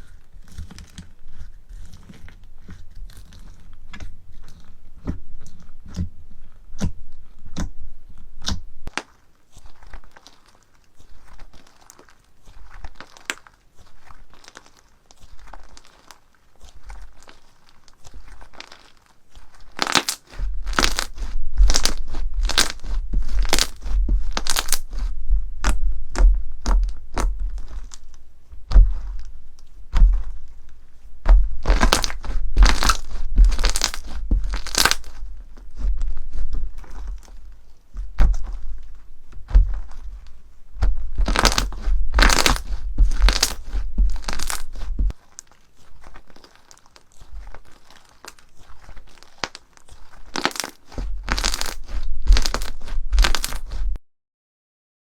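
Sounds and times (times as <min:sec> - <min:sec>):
crunchy slime crackling: 0:00.0 - 0:54.0.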